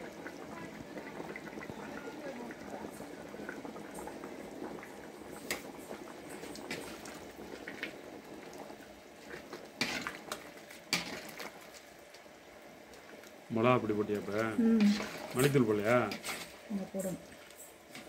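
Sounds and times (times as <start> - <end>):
curry bubbling in a pot: 0.0 - 18.0.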